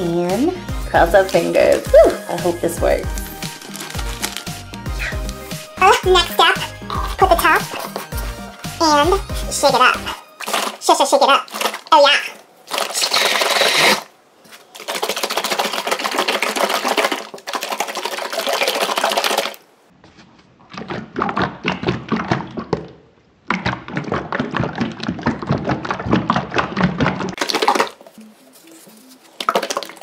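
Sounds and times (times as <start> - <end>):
water sloshing in shaken jar: 1.1 - 19.6, 23.6 - 30.0.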